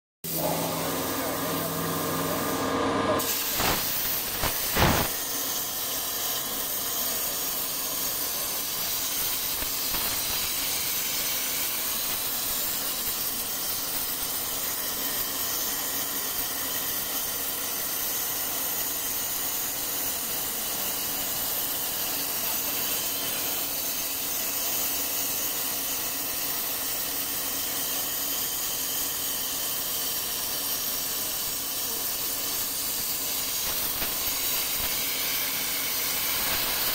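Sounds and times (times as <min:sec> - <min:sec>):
plasma torch hissing: 0:00.3 - 0:36.9.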